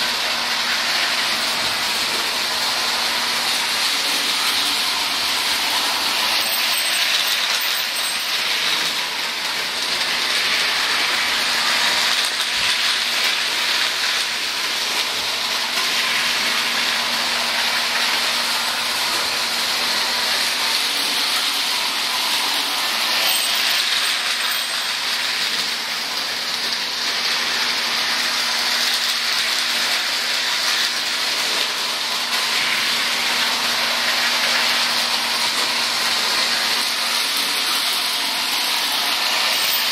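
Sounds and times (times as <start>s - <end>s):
toy train whirring and rolling: 0.0s - 39.9s.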